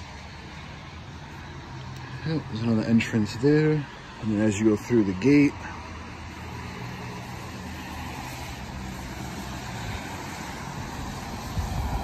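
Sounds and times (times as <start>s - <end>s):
tyres hissing on wet road: 0.0s - 12.0s
vehicle engine hum: 0.0s - 12.0s.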